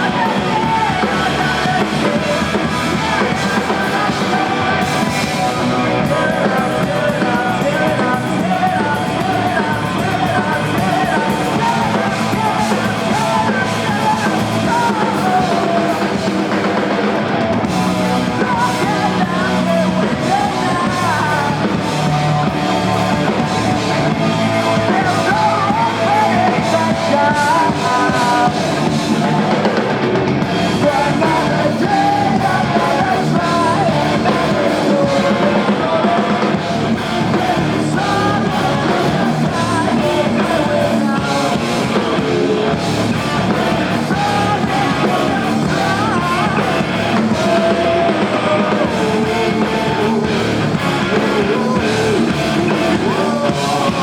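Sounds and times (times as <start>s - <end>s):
live rock band with singing: 0.0s - 54.0s.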